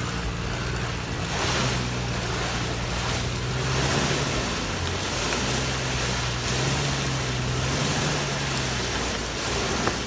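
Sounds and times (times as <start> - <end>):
car engine revving high: 0.0 - 10.0
wheels churning mud: 0.0 - 10.0.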